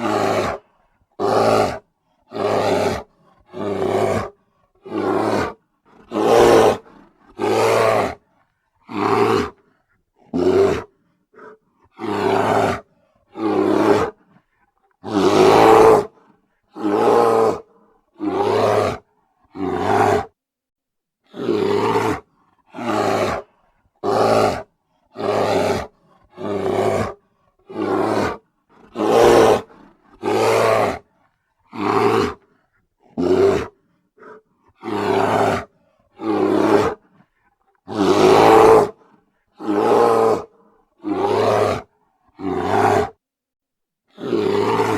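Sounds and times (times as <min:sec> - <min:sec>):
bear roaring: 0:00.0 - 0:14.4, 0:15.0 - 0:20.4, 0:21.3 - 0:31.1, 0:31.7 - 0:37.2, 0:37.8 - 0:43.2, 0:44.1 - 0:44.9.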